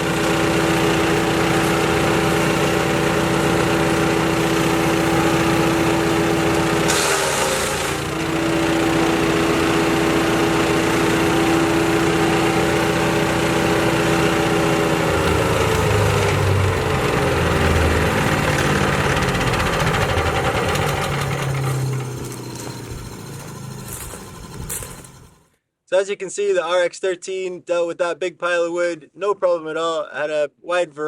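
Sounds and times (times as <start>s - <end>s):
chipper shredder engine whining: 0.0s - 25.5s.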